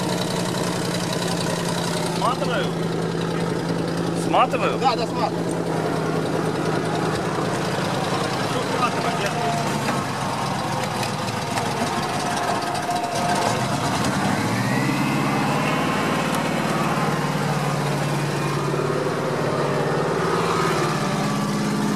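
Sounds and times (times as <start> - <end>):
truck engine running: 0.0 - 21.9
winch whine: 0.0 - 21.9.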